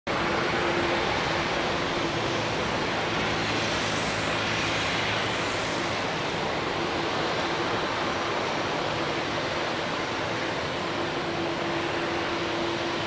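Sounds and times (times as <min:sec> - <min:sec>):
jet engine rushing: 0:00.1 - 0:13.0.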